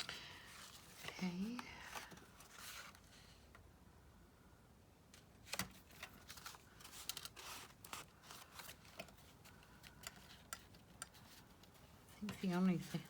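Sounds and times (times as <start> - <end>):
paper rustling: 0.0 - 3.4, 5.2 - 13.0.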